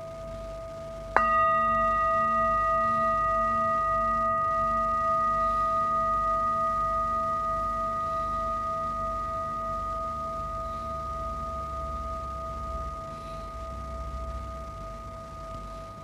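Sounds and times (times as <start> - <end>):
singing bowl struck and ringing: 0.0 - 16.0
steady ringing tone: 0.0 - 16.0.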